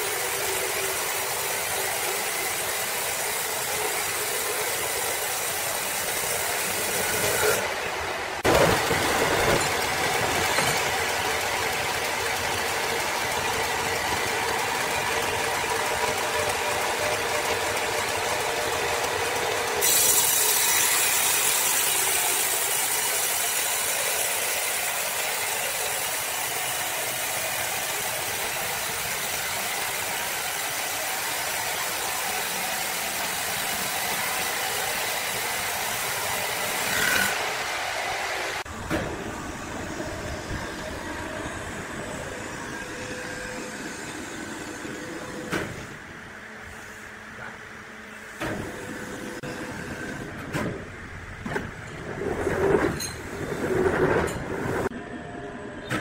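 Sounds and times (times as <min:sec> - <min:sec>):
machinery running: 0:00.0 - 0:56.0.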